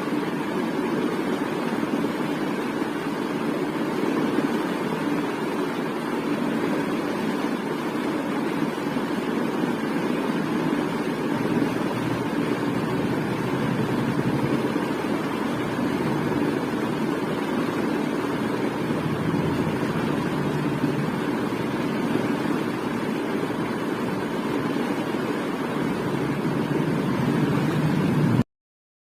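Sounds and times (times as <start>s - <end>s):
ceiling fan whooshing hum: 0.0s - 28.4s.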